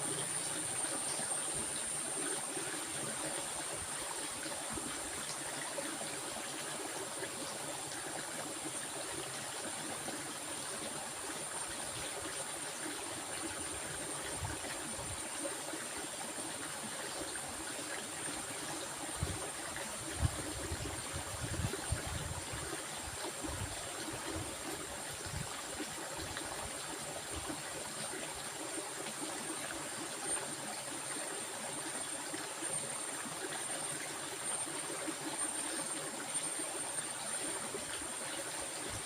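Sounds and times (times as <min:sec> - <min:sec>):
stream water rushing and babbling: 0:00.0 - 0:39.0.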